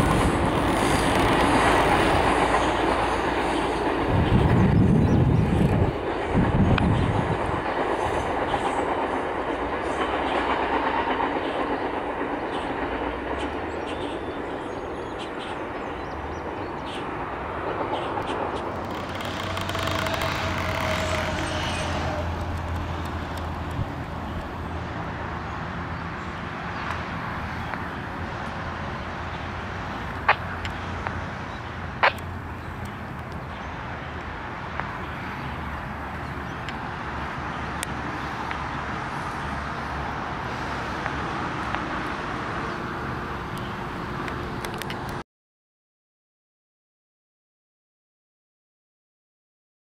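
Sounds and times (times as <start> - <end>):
distant road traffic hum: 0.0 - 45.2.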